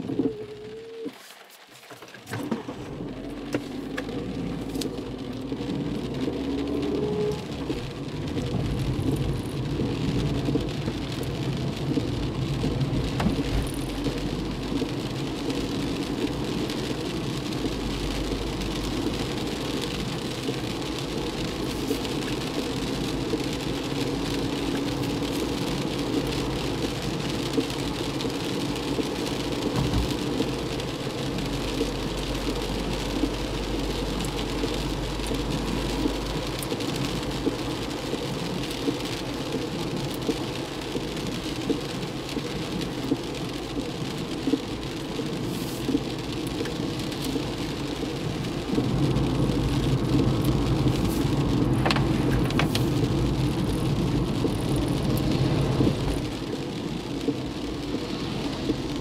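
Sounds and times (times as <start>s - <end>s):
car engine: 0.0s - 59.0s
rain beating on windshield: 0.0s - 59.0s
wet tyre road noise: 0.0s - 59.0s.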